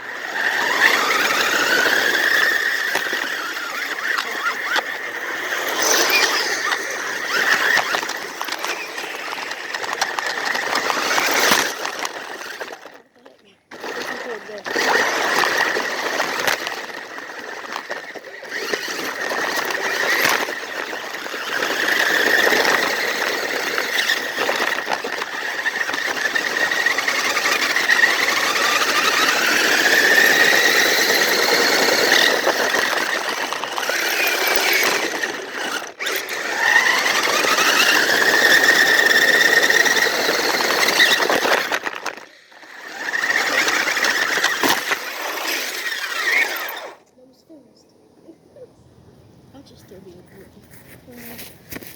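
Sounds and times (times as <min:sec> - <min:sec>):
toy vehicle motors whining: 0:00.0 - 0:47.8, 0:49.5 - 0:51.9.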